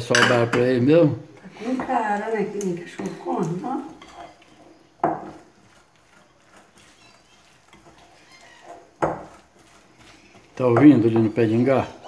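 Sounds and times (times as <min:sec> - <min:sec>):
batter squelching in bowl: 0:01.3 - 0:12.0.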